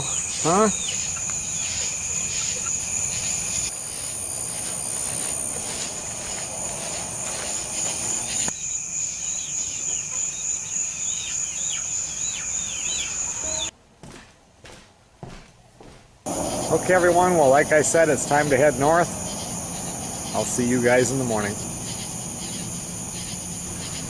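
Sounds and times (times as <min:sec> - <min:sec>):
short chirping calls: 0:00.0 - 0:04.2, 0:05.0 - 0:13.7, 0:16.3 - 0:24.0
crickets high-pitched trill: 0:00.0 - 0:13.7, 0:16.3 - 0:24.0
lower shrill insect tone: 0:00.0 - 0:13.7, 0:16.3 - 0:24.0.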